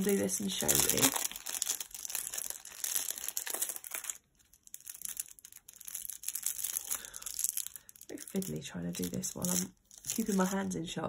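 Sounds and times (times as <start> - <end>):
plastic packet crinkling: 0.0 - 10.8.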